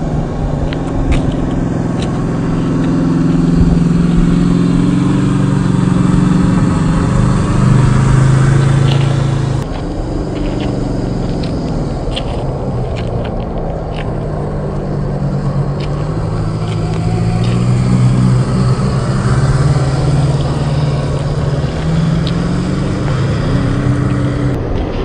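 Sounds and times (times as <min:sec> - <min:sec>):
electric motor drone: 0:00.0 - 0:25.0.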